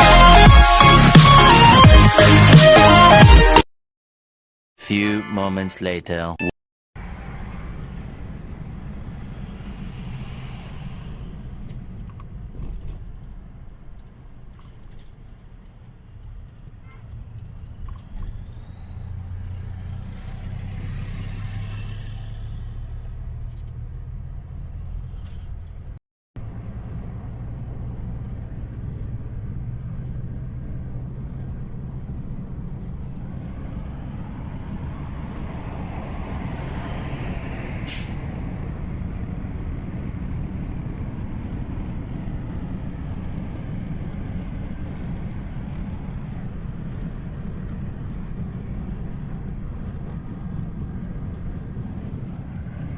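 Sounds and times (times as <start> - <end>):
motor vehicle rumble: 7.0 - 52.9.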